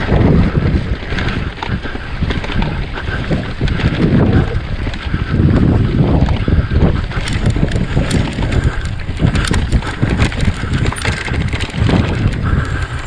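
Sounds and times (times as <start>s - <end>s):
bike frame and chain rattling: 0.0s - 13.0s
bike tyres rumbling over ground: 0.0s - 13.0s
wind buffeting microphone: 0.0s - 13.0s.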